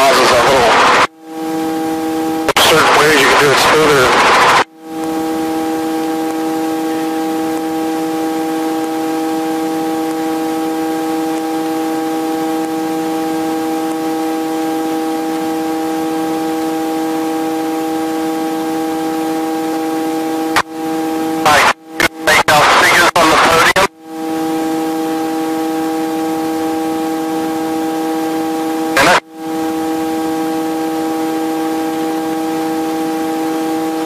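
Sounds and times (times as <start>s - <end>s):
droning tone over hiss: 0.0s - 34.0s.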